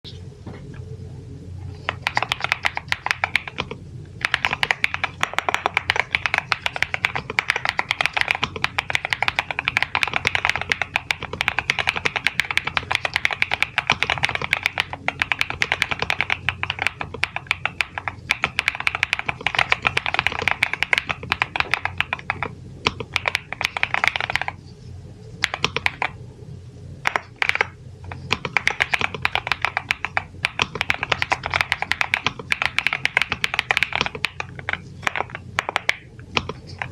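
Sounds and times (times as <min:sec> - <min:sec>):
mechanical keyboard typing: 0:01.8 - 0:24.6, 0:25.4 - 0:26.2, 0:27.0 - 0:36.9.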